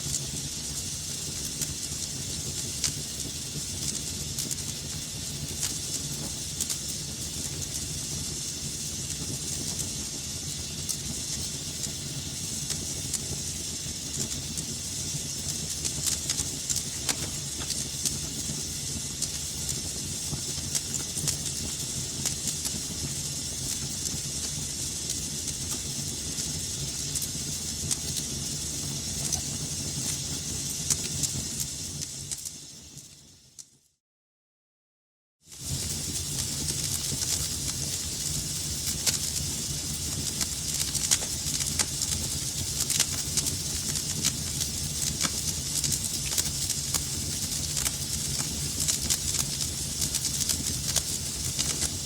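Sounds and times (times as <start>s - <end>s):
wood fire crackling: 0.0s - 33.3s, 35.5s - 52.0s
fire pops and snaps: 0.0s - 33.7s, 35.5s - 52.0s.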